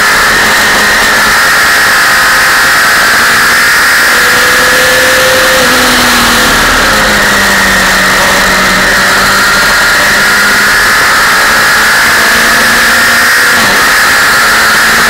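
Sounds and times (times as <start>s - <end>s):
loud wind rush: 0.0s - 14.9s
motorcycle engine at high revs: 0.0s - 15.0s.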